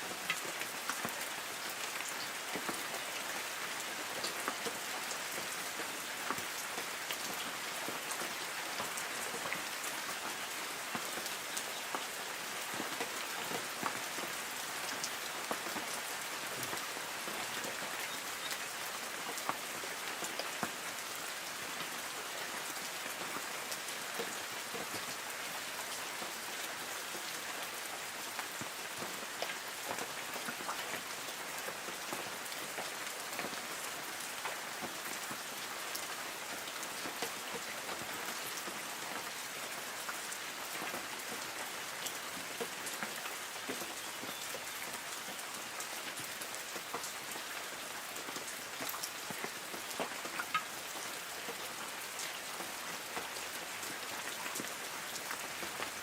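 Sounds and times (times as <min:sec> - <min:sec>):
light rain on trees: 0:00.0 - 0:56.0
raindrops pattering on leaves: 0:00.0 - 0:56.0.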